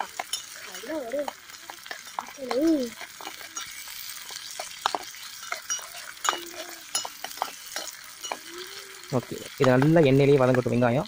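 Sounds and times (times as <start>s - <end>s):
spoon clinking and scraping metal: 0.0s - 10.8s
faint sizzle: 0.0s - 11.0s.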